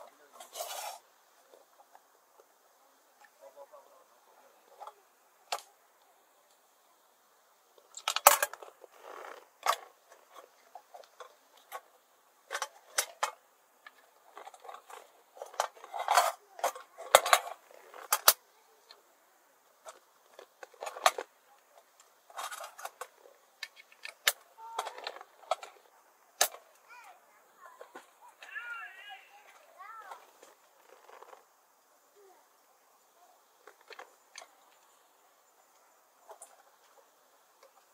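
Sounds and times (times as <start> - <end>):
camping gear clinking and rustling: 0.0 - 7.0, 7.6 - 37.9.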